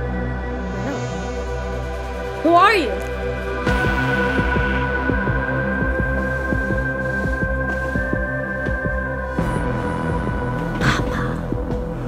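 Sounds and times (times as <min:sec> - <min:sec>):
eerie synth music: 0:00.0 - 0:12.0.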